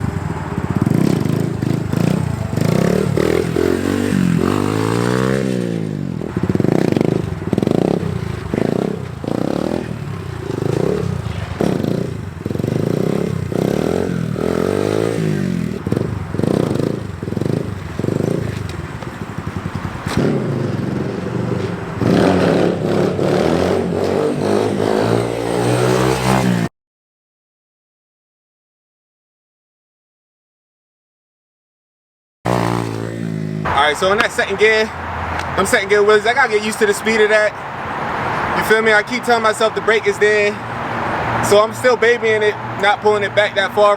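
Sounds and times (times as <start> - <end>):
dirt bike engine revving: 0.0 - 26.7, 32.5 - 43.9.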